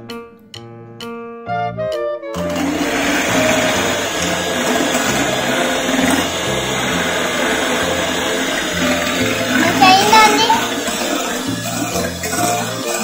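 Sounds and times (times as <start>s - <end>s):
background music: 0.0s - 13.0s
electric hand mixer whisking: 2.4s - 13.0s.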